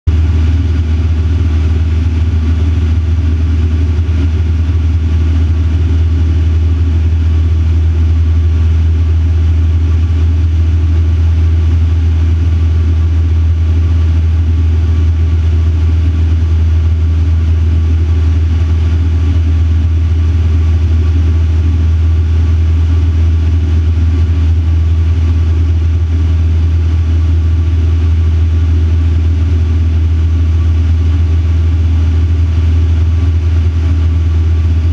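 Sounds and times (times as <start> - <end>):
aircraft engine and propeller drone: 0.1 - 34.9.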